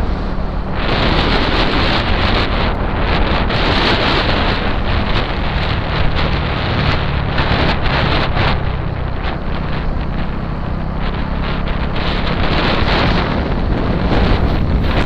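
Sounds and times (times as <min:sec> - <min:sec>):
motorcycle engine drone: 0:00.0 - 0:15.0
wind rushing over microphone: 0:00.0 - 0:15.0.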